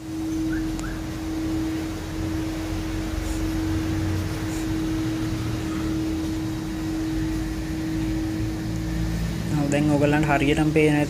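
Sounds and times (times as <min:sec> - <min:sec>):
low rumble: 0:00.0 - 0:11.0
mechanical hum: 0:00.0 - 0:11.0.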